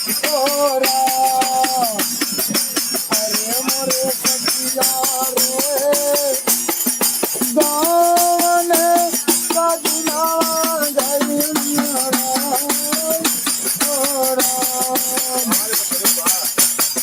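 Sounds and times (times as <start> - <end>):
jingling tambourine beat: 0.0 - 17.0.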